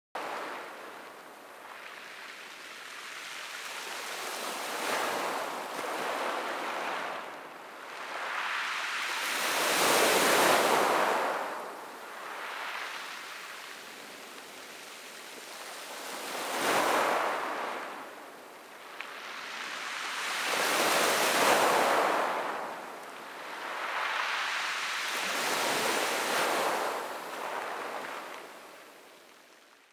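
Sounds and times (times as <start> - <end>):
waves breaking on a pebble beach: 0.2 - 29.9.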